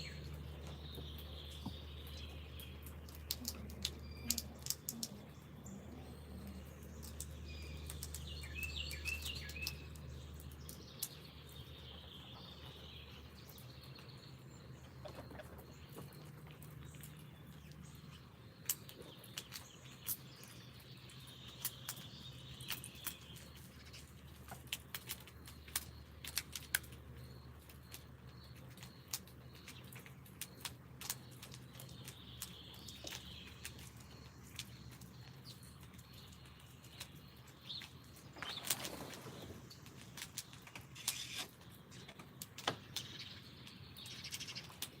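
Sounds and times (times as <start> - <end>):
low steady hum: 0.0 - 45.0
songbirds chirping: 0.0 - 45.0.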